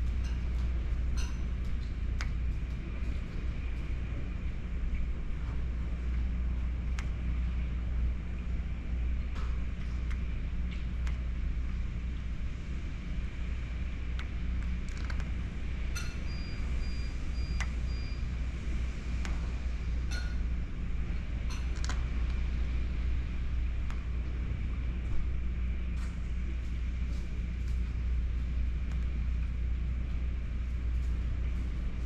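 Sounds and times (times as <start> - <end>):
low wind rumble: 0.0 - 32.0.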